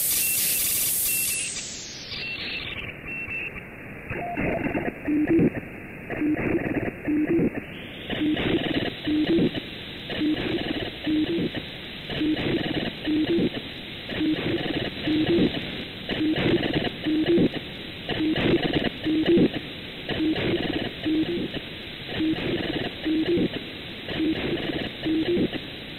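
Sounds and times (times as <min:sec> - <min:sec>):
buzzy data burst: 0:00.0 - 0:03.5, 0:04.1 - 0:25.6
receiver static: 0:00.0 - 0:25.9.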